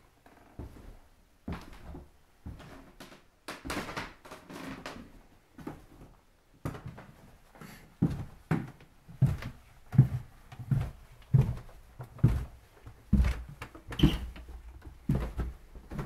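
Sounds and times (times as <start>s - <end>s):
slow footsteps: 0.2s - 16.0s.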